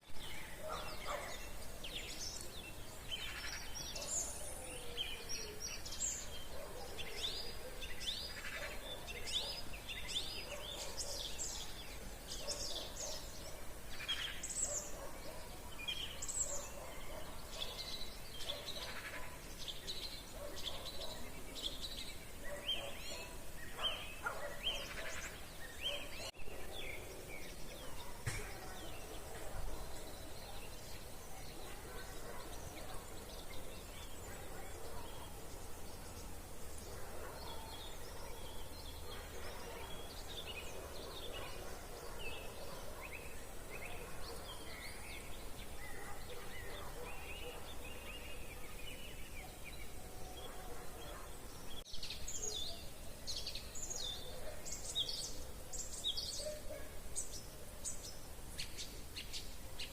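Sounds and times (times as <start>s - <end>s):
faint outdoor background: 0.0s - 59.9s
songbirds chirping and trilling: 0.0s - 59.9s.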